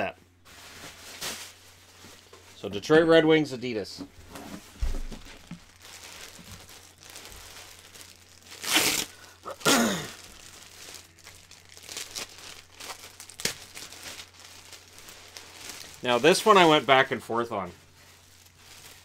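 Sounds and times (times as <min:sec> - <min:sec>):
packaging crinkling and rustling: 0:00.5 - 0:02.7, 0:04.2 - 0:19.0.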